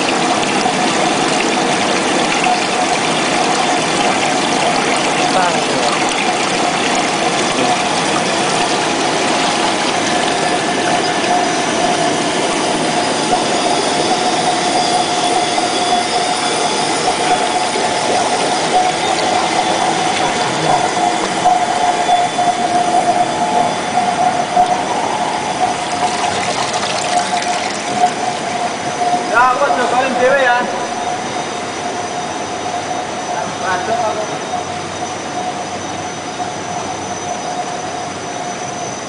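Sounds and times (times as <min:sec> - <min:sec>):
extrusion machine running: 0:00.0 - 0:34.4.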